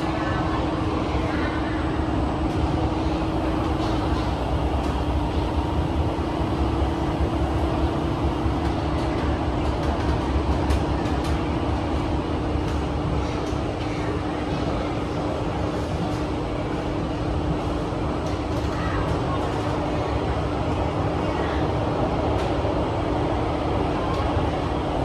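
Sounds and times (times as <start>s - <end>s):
constant hum: 0.0s - 25.0s
train wheels rumbling on rail: 0.0s - 25.0s.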